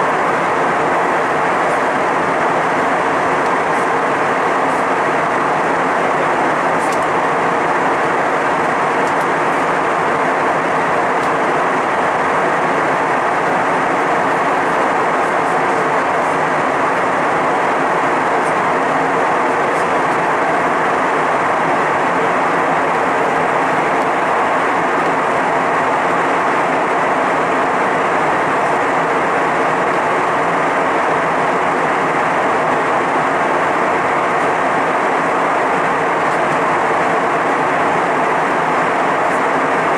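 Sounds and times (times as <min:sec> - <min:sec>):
jet cabin airflow and engine rush: 0:00.0 - 0:39.9.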